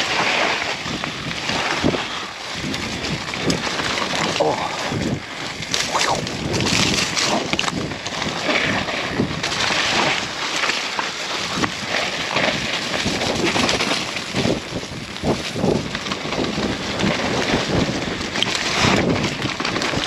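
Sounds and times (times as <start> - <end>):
wind buffeting microphone: 0.8 - 10.3, 12.5 - 20.0.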